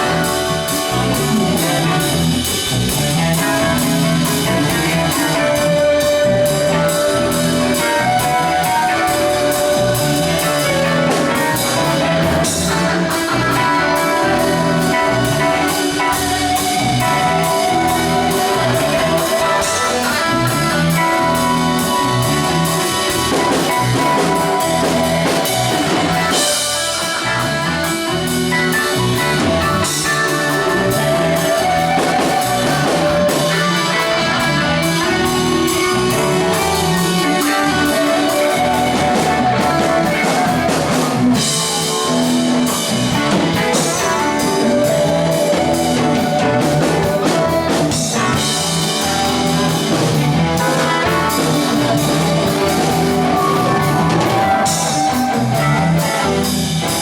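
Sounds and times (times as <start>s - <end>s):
bass: 0.0s - 57.0s
drum kit beat: 0.0s - 57.0s
electric guitar: 0.0s - 57.0s.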